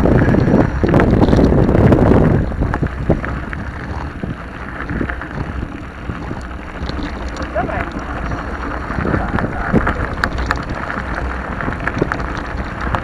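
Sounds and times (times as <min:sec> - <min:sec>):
bike tyres crunching on gravel: 0:00.0 - 0:13.0
wind buffeting microphone: 0:00.0 - 0:13.0.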